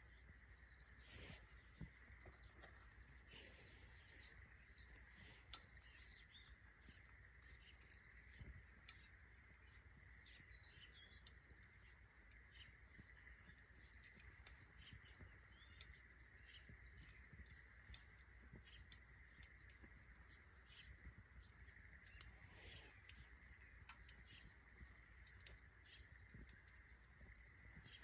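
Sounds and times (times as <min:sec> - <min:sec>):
faint birds chirping: 0:00.0 - 0:28.0
wood fire crackling: 0:00.0 - 0:28.0.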